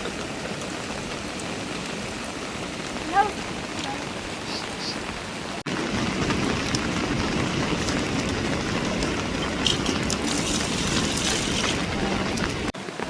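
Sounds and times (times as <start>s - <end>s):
rain falling steadily: 0.0s - 13.0s.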